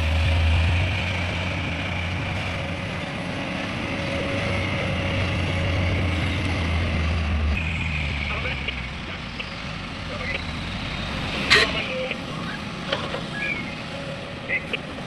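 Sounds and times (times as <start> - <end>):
diesel engine hum: 0.0 - 15.0
high-pitched whine: 0.0 - 15.0.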